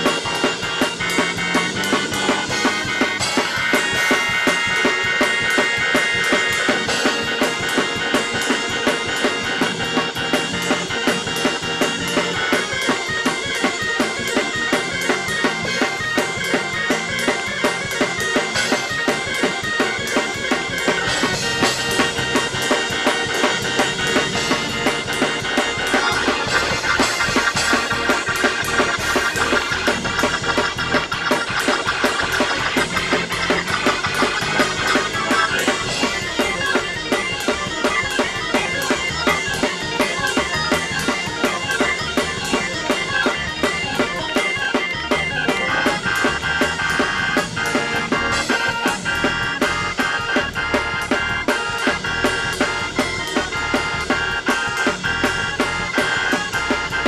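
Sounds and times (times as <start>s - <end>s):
drum kit beat: 0.0s - 57.0s
organ playing: 0.0s - 57.0s.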